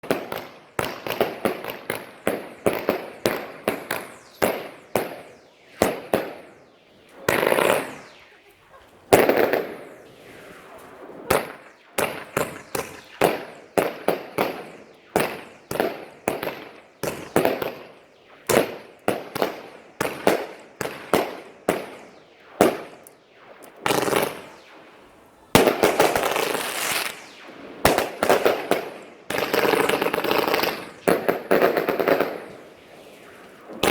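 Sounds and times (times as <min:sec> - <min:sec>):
fireworks bangs: 0:00.0 - 0:33.9
fireworks crackling: 0:00.0 - 0:33.9.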